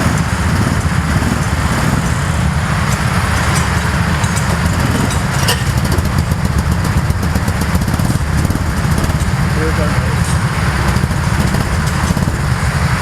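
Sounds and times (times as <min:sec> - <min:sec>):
go-kart engine running: 0:00.0 - 0:13.0
wind or tyre noise: 0:00.0 - 0:13.0.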